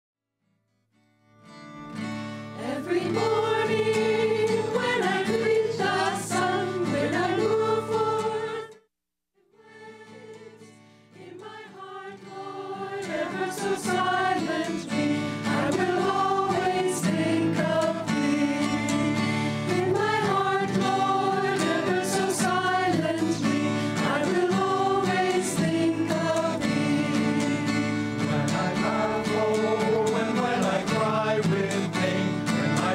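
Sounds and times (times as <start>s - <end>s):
acoustic guitar: 0.4s - 8.8s, 9.6s - 32.9s
choir singing: 2.6s - 8.8s, 9.5s - 32.9s.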